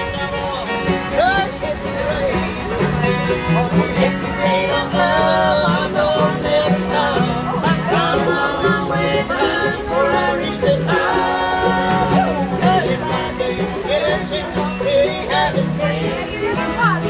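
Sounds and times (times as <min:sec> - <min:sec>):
bluegrass string band playing: 0:00.0 - 0:17.0.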